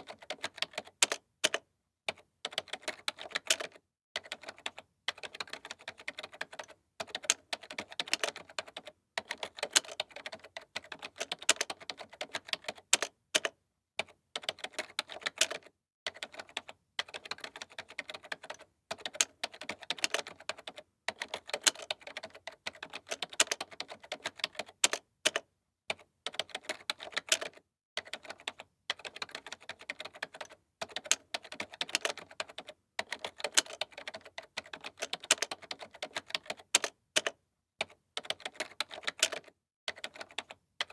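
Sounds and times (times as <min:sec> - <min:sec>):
typing on a keyboard: 0:00.0 - 0:40.9.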